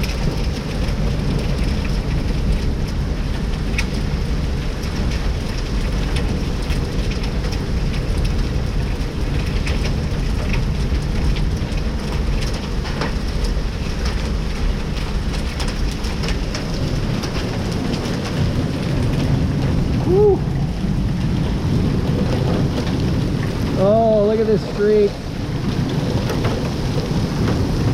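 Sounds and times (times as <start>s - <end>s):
hailstones ticking: 0.0s - 27.9s
heavy rain: 0.0s - 27.9s.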